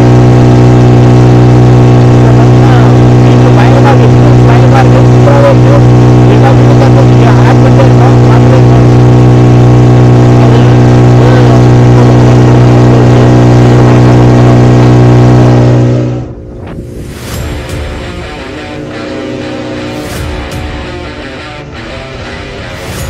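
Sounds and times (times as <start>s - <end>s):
speedboat engine drone: 0.0s - 23.0s.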